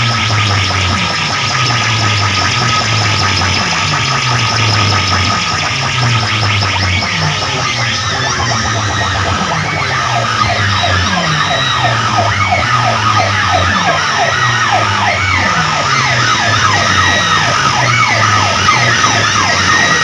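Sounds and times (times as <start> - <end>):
pulsing bass: 0.0 - 20.0
siren-like falling pitch sweeps: 0.0 - 20.0.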